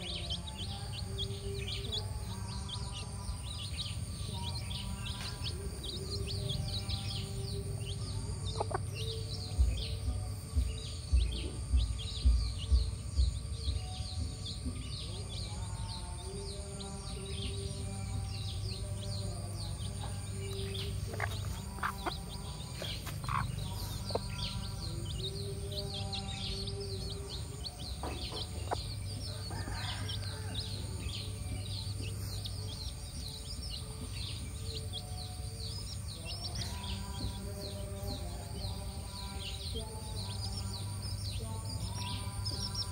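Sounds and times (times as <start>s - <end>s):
chicks peeping: 0.0s - 42.9s
steady low hum: 0.0s - 42.9s.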